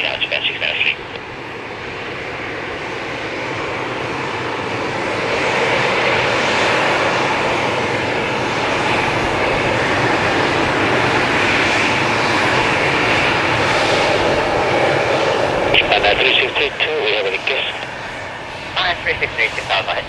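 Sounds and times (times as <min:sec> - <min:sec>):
jet engines roaring and whining: 0:00.0 - 0:20.0.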